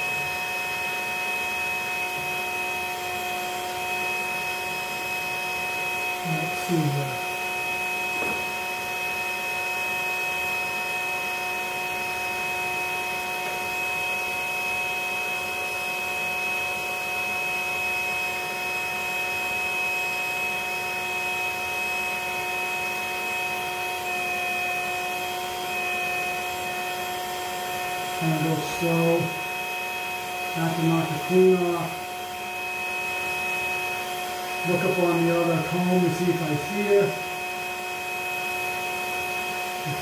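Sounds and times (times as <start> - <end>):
vacuum motor whine: 0.0 - 40.0.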